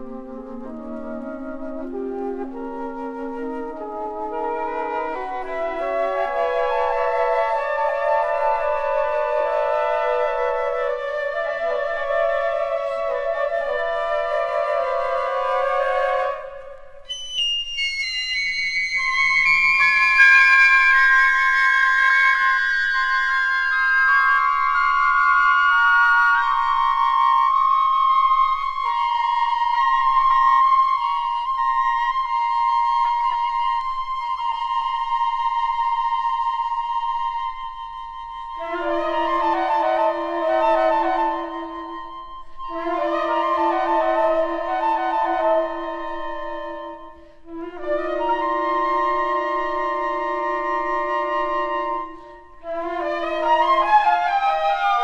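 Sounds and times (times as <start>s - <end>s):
flute choir playing chords: 0.0s - 55.0s.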